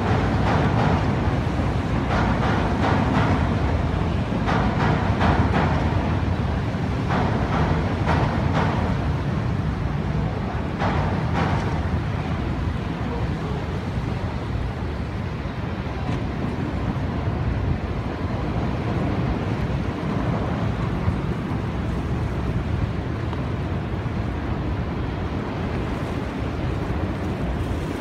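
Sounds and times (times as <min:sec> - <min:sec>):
boat engines: 0:00.0 - 0:28.0
river and city traffic rumble: 0:00.0 - 0:28.0
wind buffeting microphone: 0:00.0 - 0:28.0.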